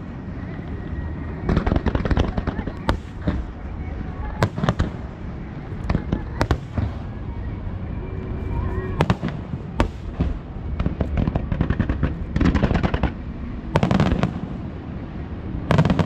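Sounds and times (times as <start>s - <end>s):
rapid fireworks crackling: 0.0s - 7.7s, 8.5s - 16.0s
fireworks bursting with bangs: 1.4s - 7.3s, 8.9s - 16.0s.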